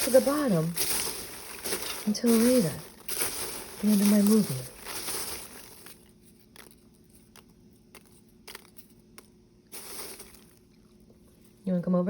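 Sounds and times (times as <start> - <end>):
popcorn crunches and clicks: 0.0 - 11.7
soft rustle: 0.0 - 11.8.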